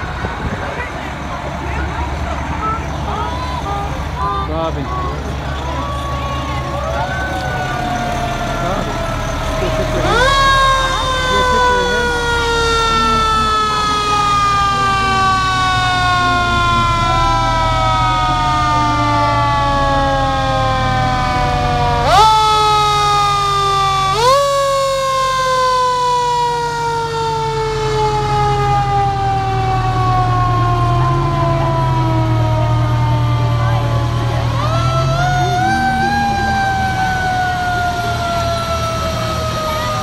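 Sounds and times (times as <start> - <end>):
fire truck engines running low: 0.0 - 40.0
fire engine siren winding: 5.6 - 40.0.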